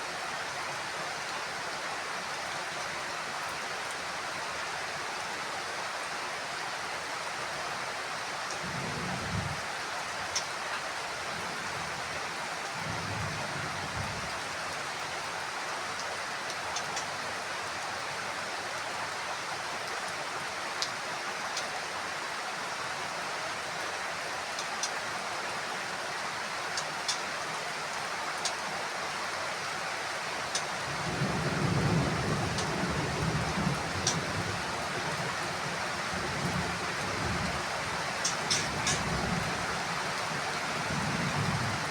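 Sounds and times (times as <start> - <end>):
heavy rain on a roof: 0.0 - 41.9.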